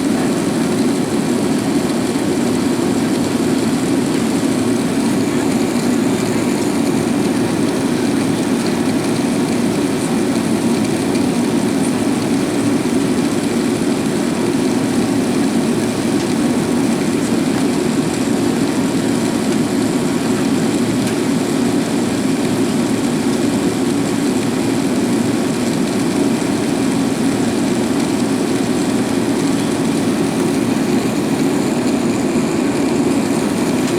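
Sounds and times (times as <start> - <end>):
airliner cabin engine hum: 0.0 - 33.9.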